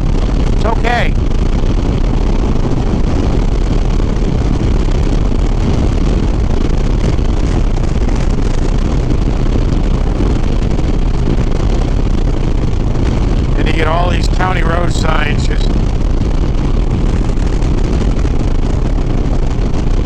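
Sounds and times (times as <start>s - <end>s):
motorcycle engine drone: 0.0s - 20.0s
wind rush over microphone: 0.0s - 20.0s.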